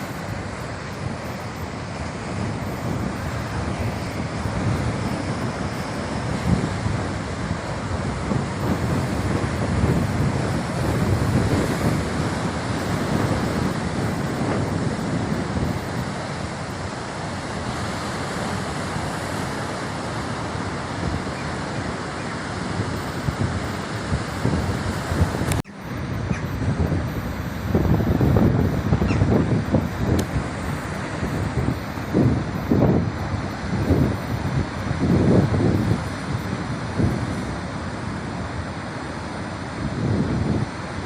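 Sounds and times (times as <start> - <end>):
wind buffeting microphone: 0.0 - 38.8, 39.5 - 41.0
waves surging and breaking: 0.0 - 41.0.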